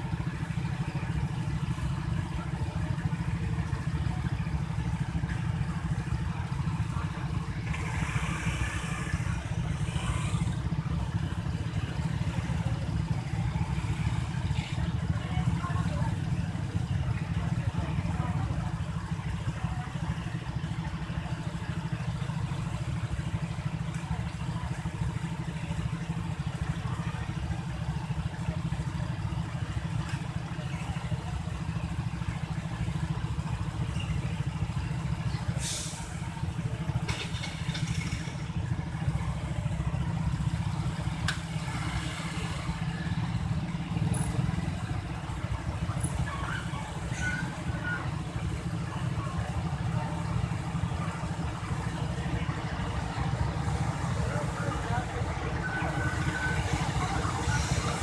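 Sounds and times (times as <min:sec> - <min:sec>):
wheels clicking and squealing: 0:00.0 - 0:58.0.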